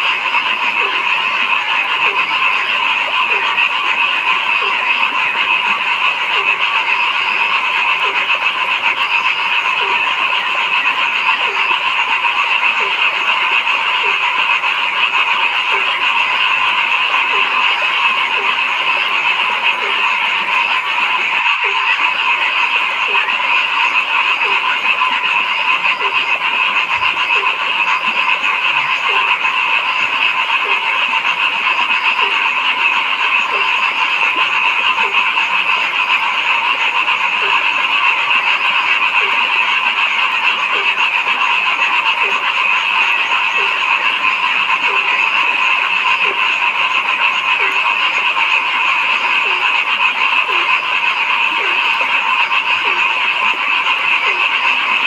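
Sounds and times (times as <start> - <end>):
chorus of frogs calling: 0.0 - 55.0
low frog croak: 0.0 - 55.0.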